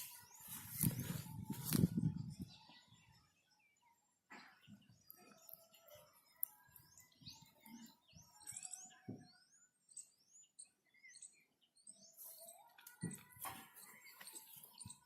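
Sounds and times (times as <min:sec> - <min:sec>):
high chirping birdsong: 0:00.0 - 0:15.0.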